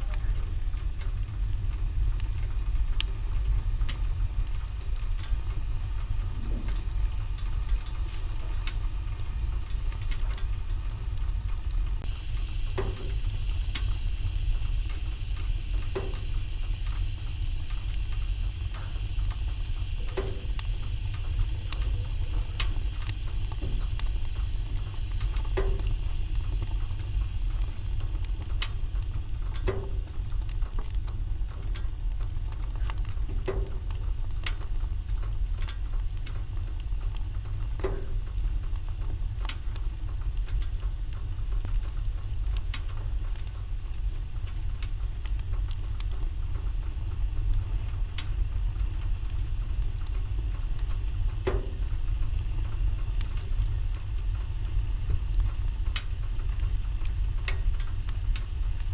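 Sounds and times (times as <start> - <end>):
fire pops: 0.0 - 58.9
low rumble: 0.0 - 58.9
wood fire crackling: 0.0 - 58.9.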